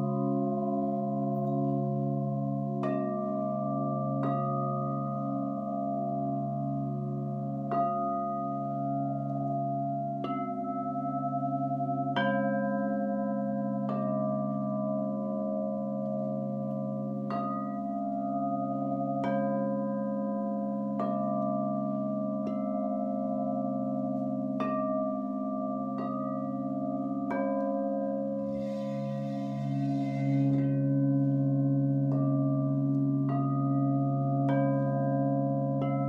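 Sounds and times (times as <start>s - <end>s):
crystal singing bowls ringing: 0.0s - 36.0s.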